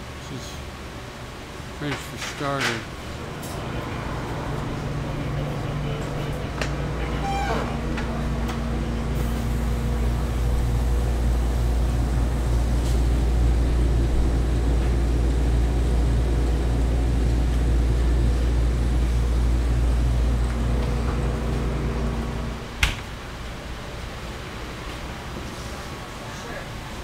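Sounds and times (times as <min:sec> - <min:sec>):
refrigeration unit humming: 0:00.0 - 0:27.0.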